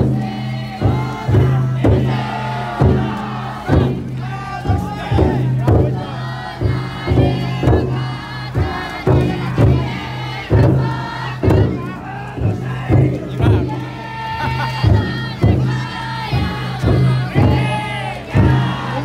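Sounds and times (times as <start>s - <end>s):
crowd chanting and shouting: 0.0s - 19.0s
large drum beating: 0.0s - 19.0s.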